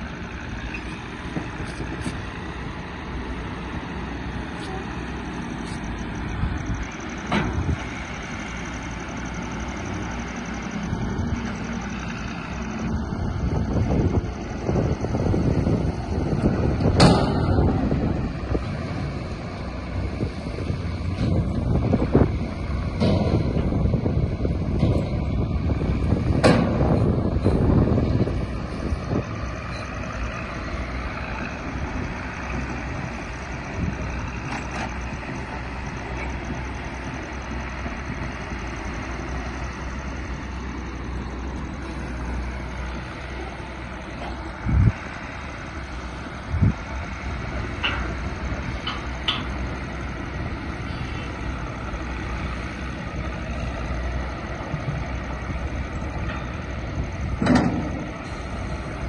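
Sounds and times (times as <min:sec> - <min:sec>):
heavy vehicle engine rumble: 0:00.0 - 0:59.0.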